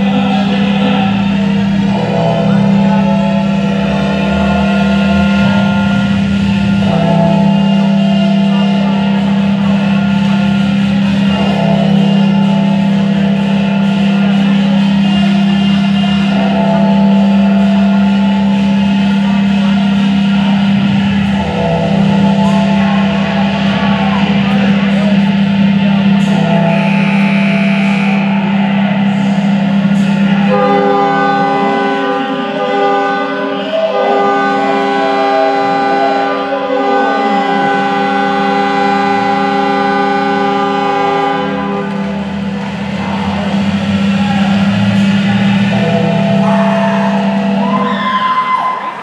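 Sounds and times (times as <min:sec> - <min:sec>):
music over sound system: 0:00.0 - 0:49.0
steady low drone: 0:00.0 - 0:49.0.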